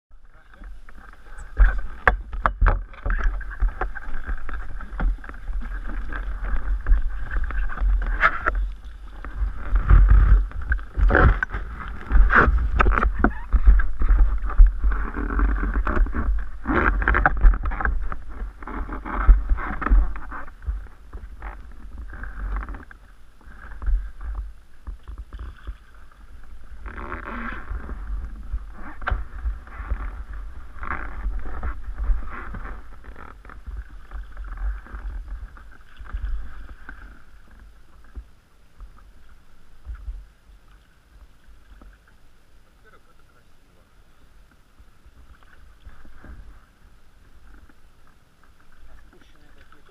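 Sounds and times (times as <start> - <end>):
steady low rumble: 0.1 - 49.9
water splashing against hull: 0.2 - 49.9.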